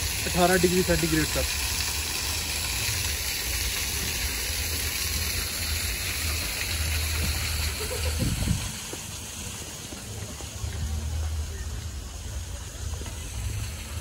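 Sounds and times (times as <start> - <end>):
small waterfall splashing: 0.0 - 14.0.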